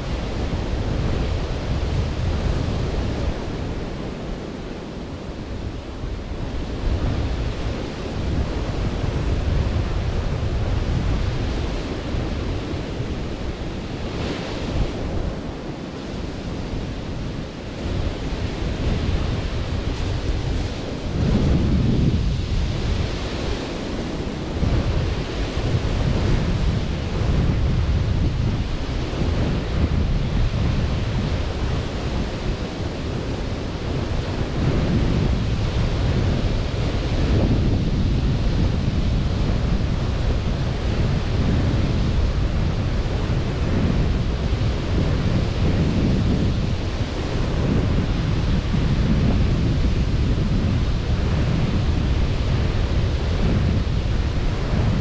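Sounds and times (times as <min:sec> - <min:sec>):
surf washing onto beach: 0:00.0 - 0:55.0
wind: 0:00.0 - 0:55.0.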